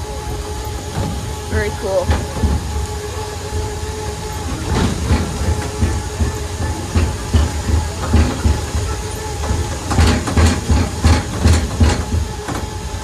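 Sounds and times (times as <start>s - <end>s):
tram rolling over wooden planks: 0.0s - 13.0s.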